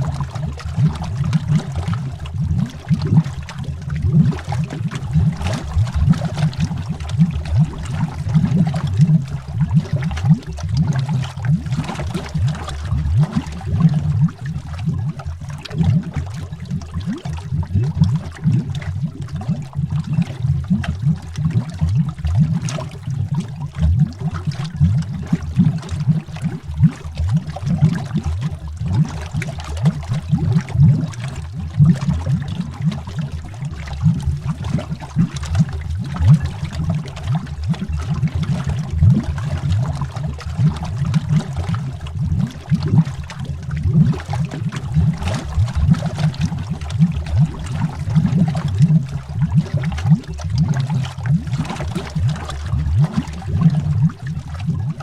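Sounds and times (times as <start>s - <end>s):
underwater bubbles gurgling: 0.0s - 55.0s.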